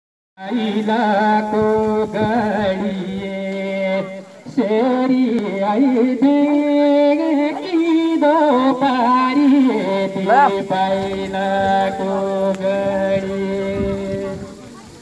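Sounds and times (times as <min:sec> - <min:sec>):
man singing into microphone: 0:00.4 - 0:15.0.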